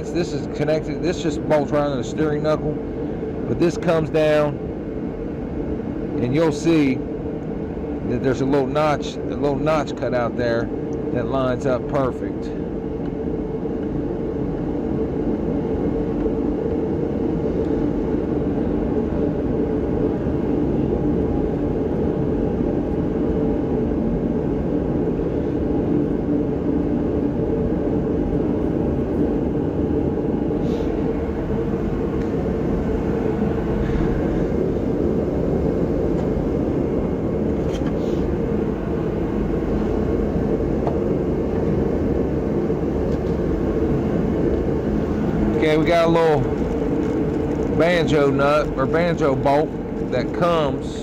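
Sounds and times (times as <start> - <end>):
mechanical drone: 0.0 - 51.0.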